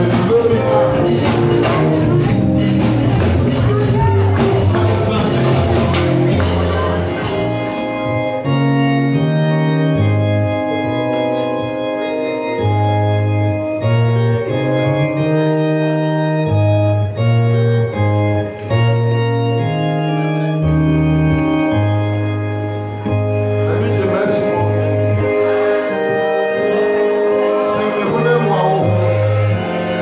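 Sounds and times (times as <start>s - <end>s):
electronic keyboard organ chords: 0.0s - 30.0s
keyboard bass line: 0.0s - 30.0s.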